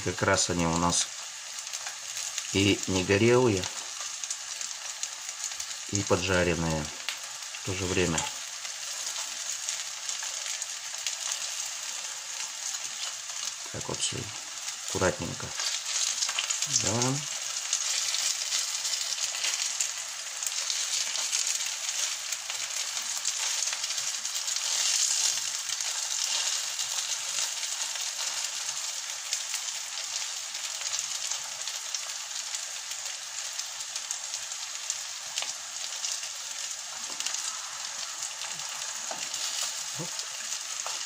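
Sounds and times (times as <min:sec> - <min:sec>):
food sizzling in a frying pan: 0:00.0 - 0:41.0.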